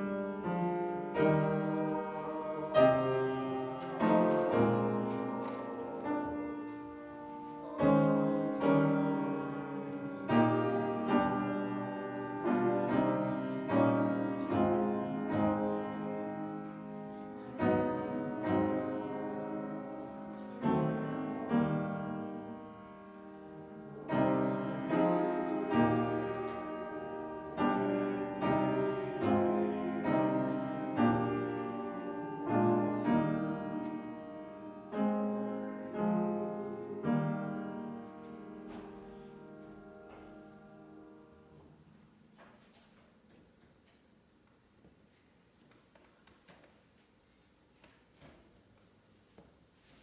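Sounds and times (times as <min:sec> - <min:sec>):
piano playing hymn chords: 0:00.0 - 0:42.4.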